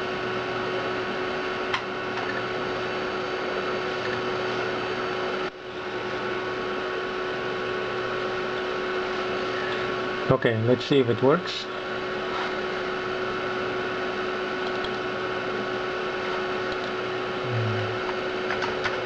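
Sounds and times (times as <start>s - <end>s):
computer whirring hiss: 0.0s - 19.0s
constant whine: 0.0s - 19.0s.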